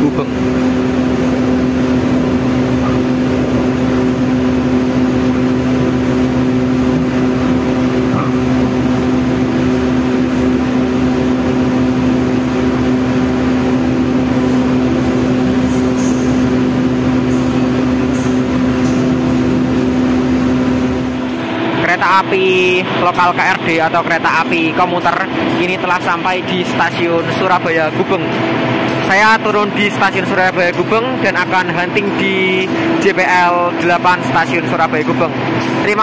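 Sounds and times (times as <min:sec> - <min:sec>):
train engine hum: 0:00.0 - 0:36.0.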